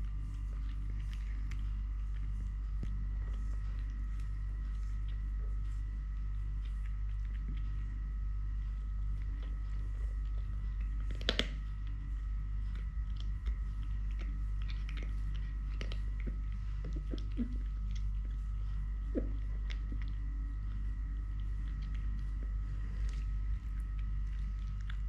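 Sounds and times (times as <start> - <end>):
kitten crunching food: 0.0 - 25.0.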